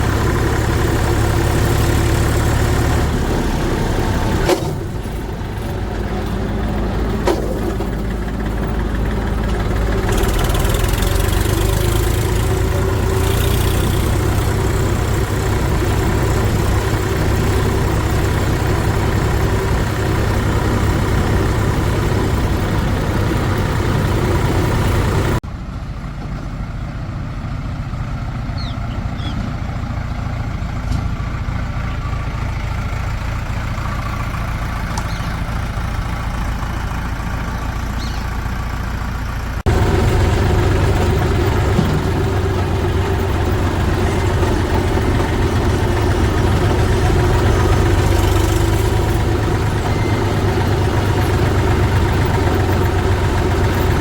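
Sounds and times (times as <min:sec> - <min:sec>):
heavy machinery diesel engines: 0:00.0 - 0:54.0.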